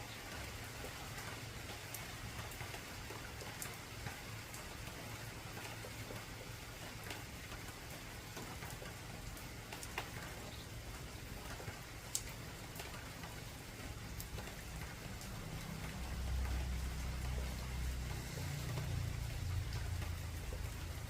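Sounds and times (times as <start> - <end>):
heavy rain on a tin roof: 0.0 - 21.0.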